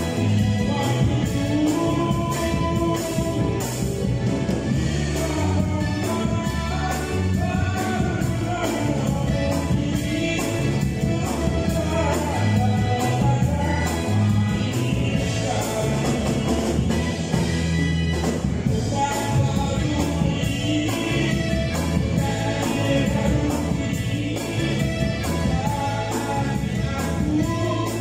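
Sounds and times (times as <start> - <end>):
live band with singer: 0.0 - 28.0.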